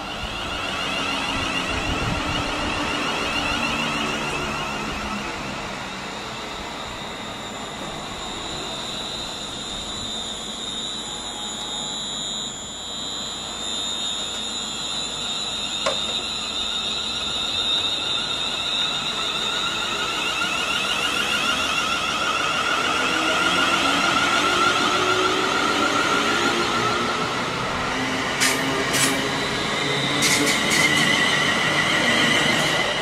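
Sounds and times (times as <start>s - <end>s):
train rushing: 0.0s - 12.0s, 15.1s - 33.0s
high-pitched ringing tones: 0.0s - 33.0s.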